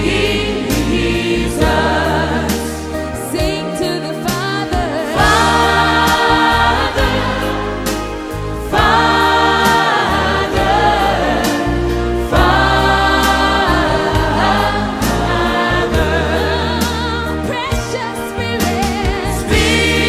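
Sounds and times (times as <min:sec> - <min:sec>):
bass accompaniment: 0:00.0 - 0:20.0
choir singing sustained chords: 0:00.0 - 0:20.0.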